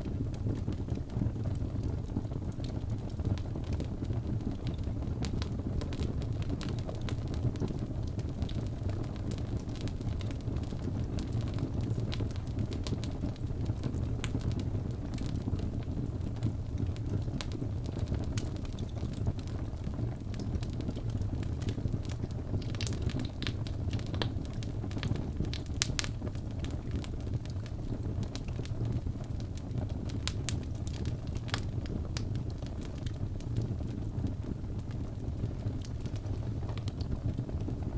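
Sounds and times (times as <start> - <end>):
fire rumbling: 0.0 - 37.9
wood crackling and popping: 0.0 - 37.9.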